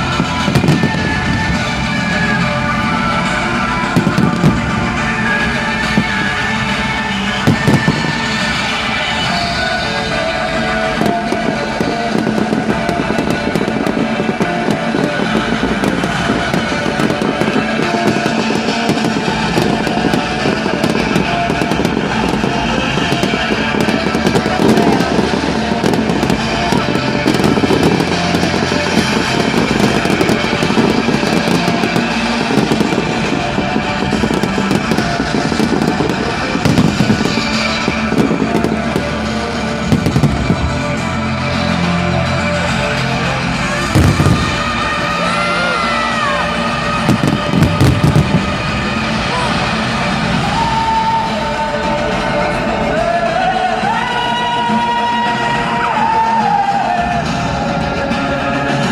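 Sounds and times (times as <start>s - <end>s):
fireworks bangs and crackles: 0.0s - 58.9s
music: 0.0s - 58.9s.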